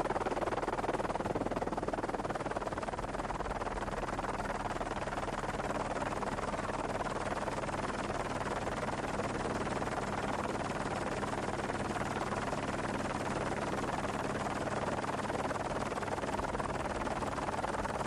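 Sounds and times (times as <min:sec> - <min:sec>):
helicopter engine and rotors: 0:00.0 - 0:18.0.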